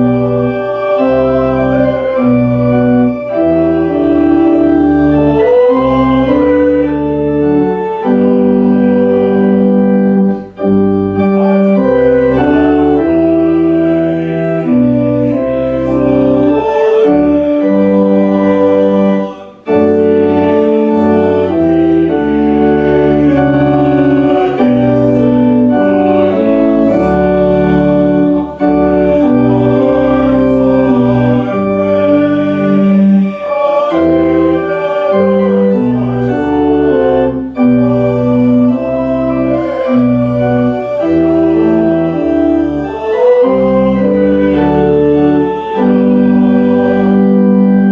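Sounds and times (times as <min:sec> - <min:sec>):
church organ chords: 0:00.0 - 0:47.9.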